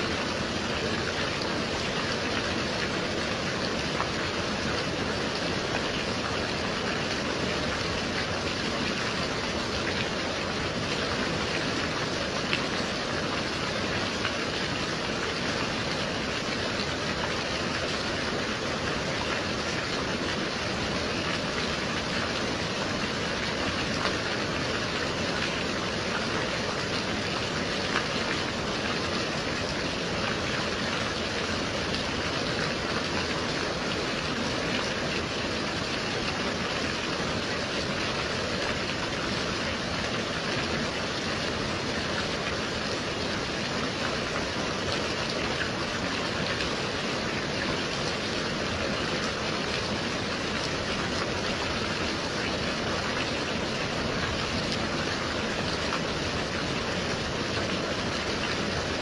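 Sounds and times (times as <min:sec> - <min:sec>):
gentle rain hissing: 0:00.0 - 0:59.0.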